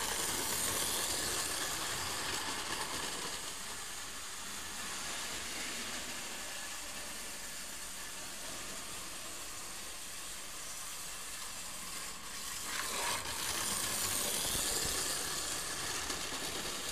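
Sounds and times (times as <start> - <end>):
model train hissing on track: 0.0 - 16.9.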